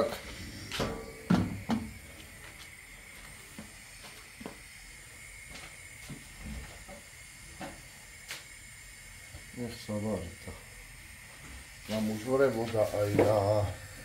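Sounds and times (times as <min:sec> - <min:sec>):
sauce hissing and popping: 0:00.0 - 0:14.0.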